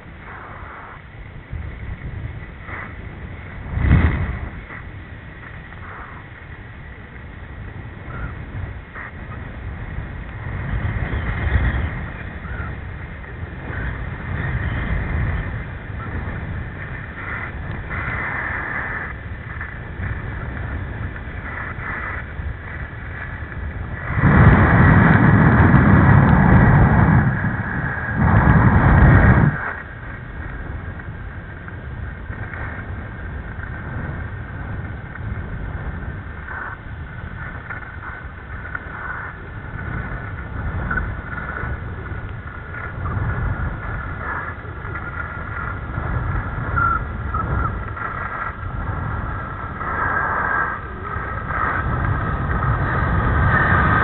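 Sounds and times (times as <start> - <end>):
wind rushing over microphone: 0.0 - 54.0
skis scraping over snow: 0.1 - 54.0.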